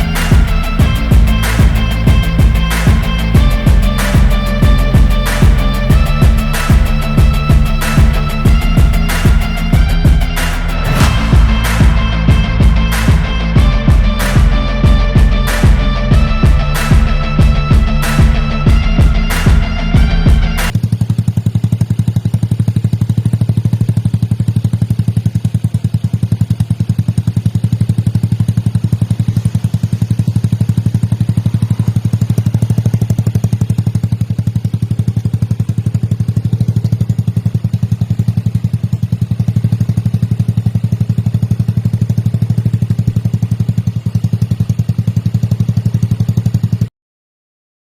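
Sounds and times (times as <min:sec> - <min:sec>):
scooter engine running: 0:00.0 - 0:46.9.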